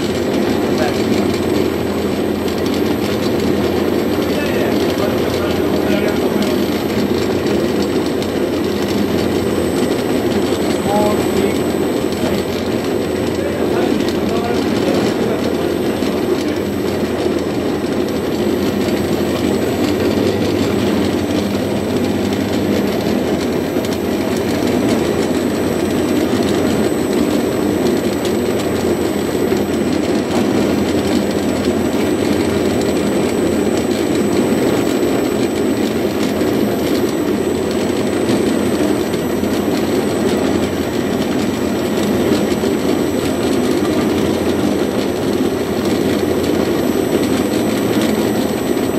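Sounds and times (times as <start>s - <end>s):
cutter-mixer blade chopping: 0.0s - 48.9s.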